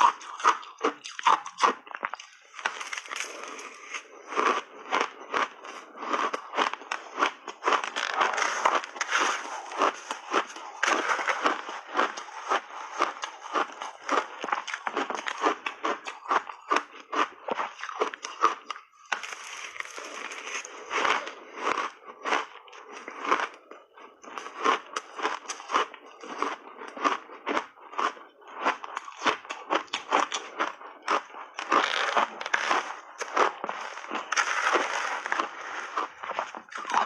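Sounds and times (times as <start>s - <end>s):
chewing crunchy shaved ice: 0.0s - 37.0s.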